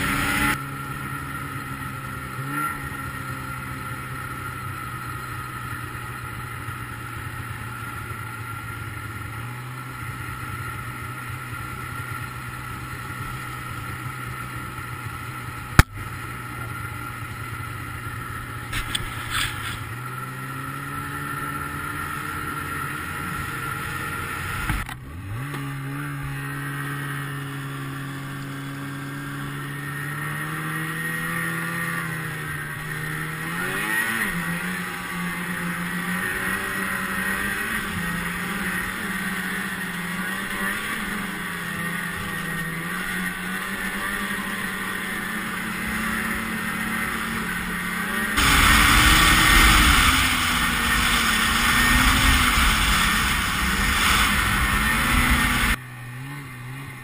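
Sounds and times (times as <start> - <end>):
snowmobile engine drone: 0.0 - 57.0.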